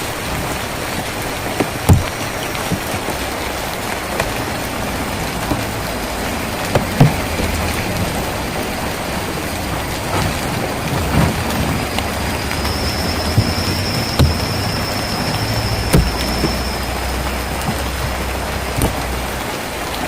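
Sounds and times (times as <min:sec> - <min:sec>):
rain drumming on tin roof: 0:00.0 - 0:20.0.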